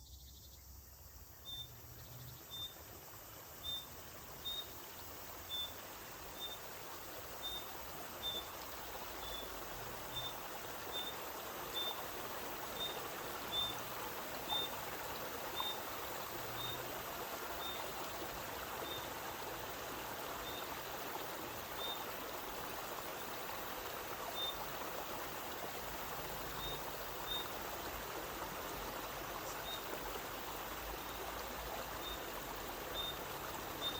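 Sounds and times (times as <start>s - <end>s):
spring water flowing: 2.7s - 33.9s.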